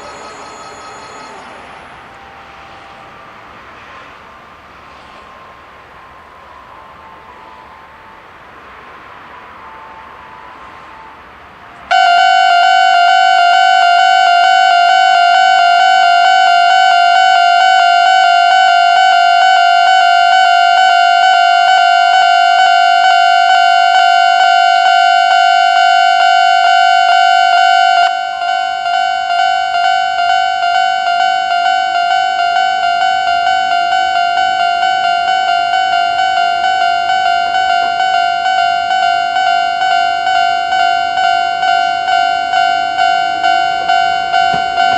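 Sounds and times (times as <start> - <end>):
level crossing warning bells ringing: 0.0 - 44.9.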